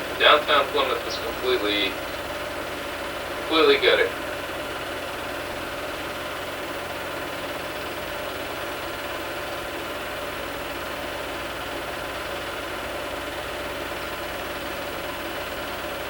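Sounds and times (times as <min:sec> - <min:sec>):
film projector whirring: 0:00.0 - 0:16.0.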